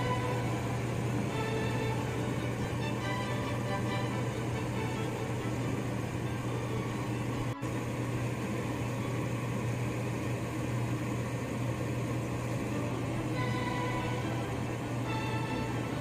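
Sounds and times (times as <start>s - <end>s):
faint musical notes: 0.0s - 10.9s, 11.7s - 16.0s
low mechanical hum: 0.0s - 16.0s.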